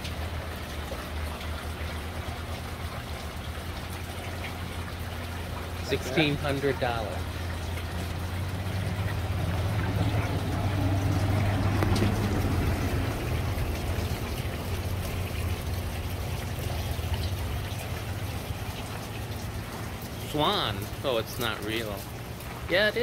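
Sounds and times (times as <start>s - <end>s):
fountain water trickling and splashing: 0.0s - 23.0s
low steady rumble: 0.0s - 23.0s.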